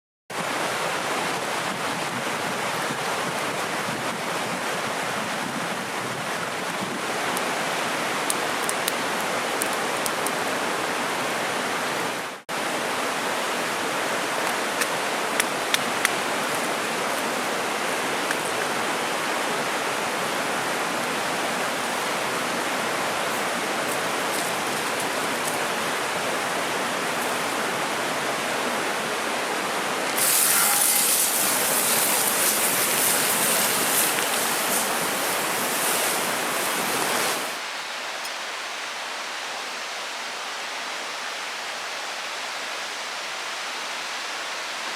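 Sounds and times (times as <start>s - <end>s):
river rushing over rocks: 0.3s - 44.9s.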